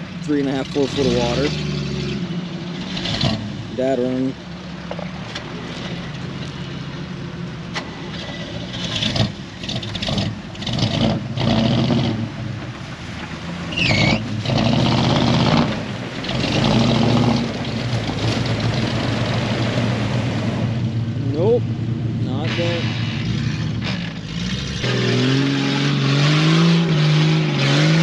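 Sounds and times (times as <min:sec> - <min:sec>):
vehicle engine revving: 0:00.0 - 0:04.4, 0:07.7 - 0:28.0.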